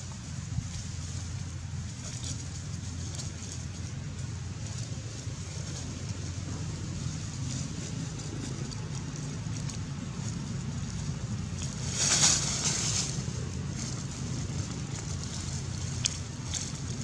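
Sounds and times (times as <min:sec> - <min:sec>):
dry leaves crackling and rustling: 0:00.0 - 0:17.0
steady low rumble: 0:00.0 - 0:17.0.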